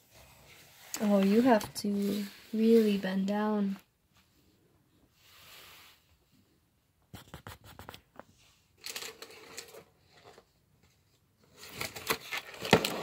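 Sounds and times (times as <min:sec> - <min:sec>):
rustling and scratching handling noise: 0:00.0 - 0:13.0.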